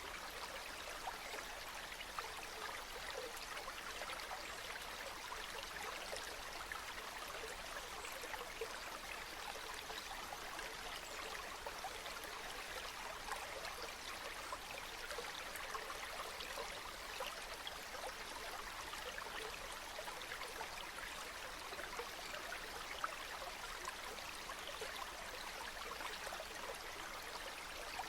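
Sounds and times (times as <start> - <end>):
stream babbling over stones: 0.0 - 28.0.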